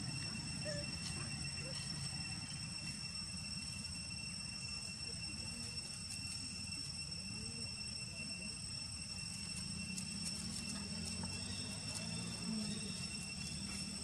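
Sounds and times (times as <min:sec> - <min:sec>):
faint wavering sounds: 0:00.0 - 0:14.0
high-pitched insect drone: 0:00.0 - 0:14.0.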